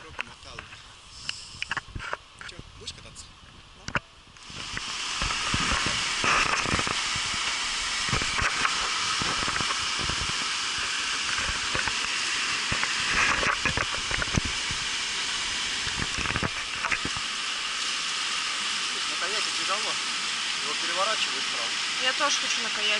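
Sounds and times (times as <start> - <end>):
rushing whitewater: 4.4 - 22.9.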